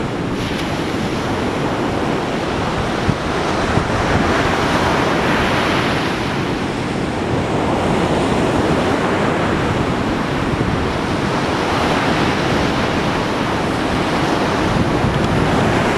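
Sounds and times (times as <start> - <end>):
beach wind: 0.0 - 15.9
sea surf: 0.0 - 15.9
wind buffeting microphone: 0.0 - 15.9.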